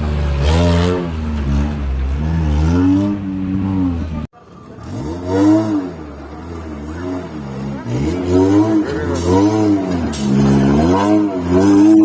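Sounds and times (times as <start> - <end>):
off-road vehicle engines revving: 0.0 - 12.0.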